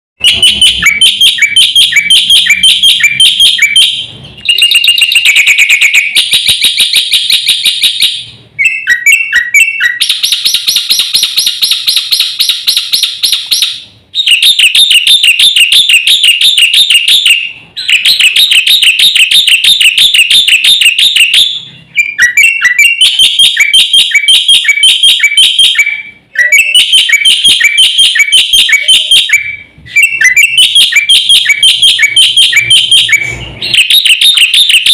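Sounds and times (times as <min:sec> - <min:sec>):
bird singing chattering notes: 0:00.2 - 0:34.9.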